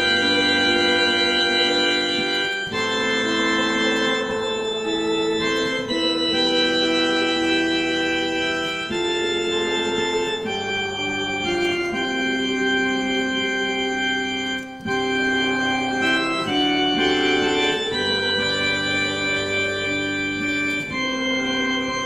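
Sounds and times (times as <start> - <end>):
organ chords on keyboard: 0.0 - 22.0.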